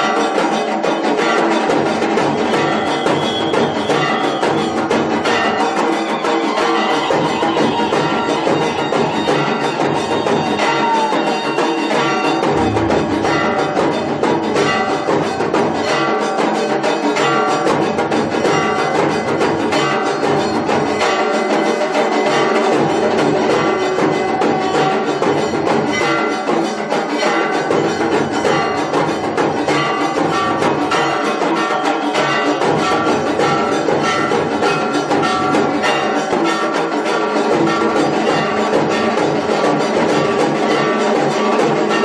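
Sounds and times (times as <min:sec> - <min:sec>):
bells ringing: 0:00.0 - 0:42.0
fast drum and percussion: 0:00.0 - 0:42.0.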